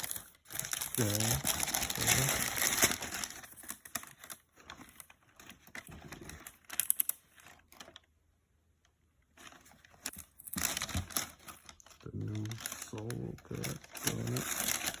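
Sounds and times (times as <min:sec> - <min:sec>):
packaging rustling: 0:00.0 - 0:08.1, 0:09.3 - 0:15.0.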